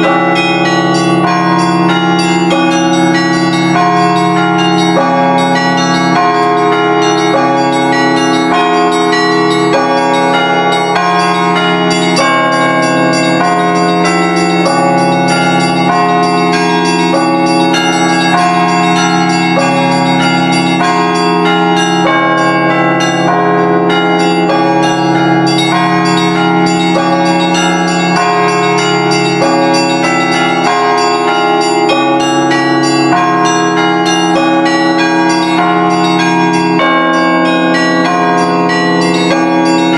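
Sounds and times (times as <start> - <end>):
large bells humming: 0.0 - 39.9
small church bells ringing quickly: 0.0 - 39.9.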